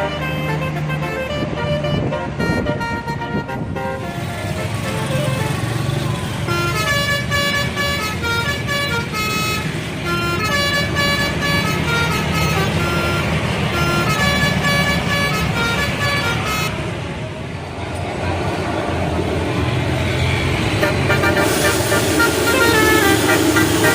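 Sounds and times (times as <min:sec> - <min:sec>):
bus horn playing a tune: 0:00.0 - 0:17.2, 0:20.6 - 0:23.9
bus engine rumble: 0:00.0 - 0:23.9.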